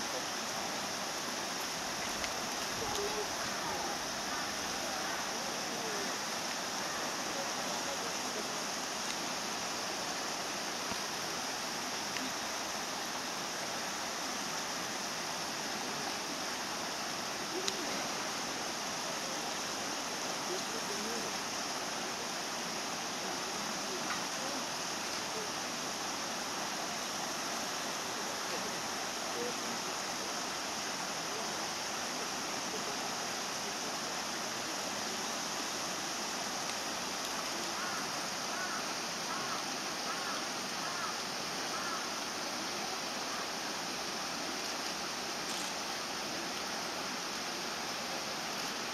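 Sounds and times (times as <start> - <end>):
faint distant voices: 0.0 - 48.9
outdoor background hiss: 0.0 - 48.9.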